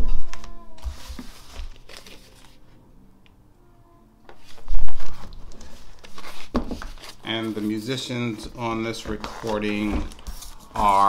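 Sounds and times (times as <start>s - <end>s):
paper and cardboard rustling: 0.0s - 2.7s, 4.4s - 11.0s.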